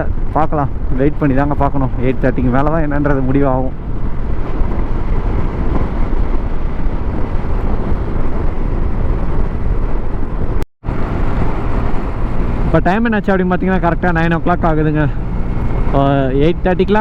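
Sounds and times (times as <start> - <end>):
scooter engine hum: 0.0 - 17.0
wind rush: 0.0 - 17.0.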